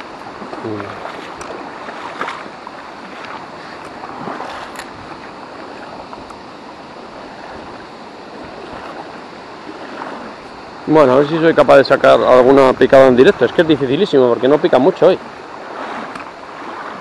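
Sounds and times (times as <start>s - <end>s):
river water rippling: 0.0s - 17.0s.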